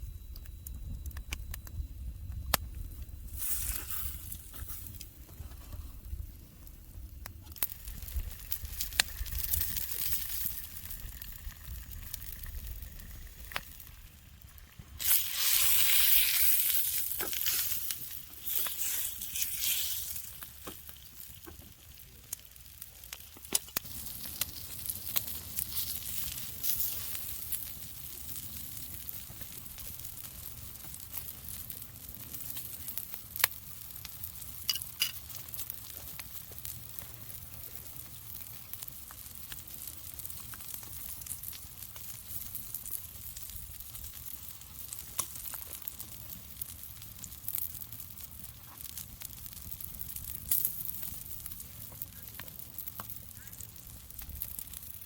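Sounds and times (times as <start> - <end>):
meat sizzling on a grill: 3.0 - 55.0.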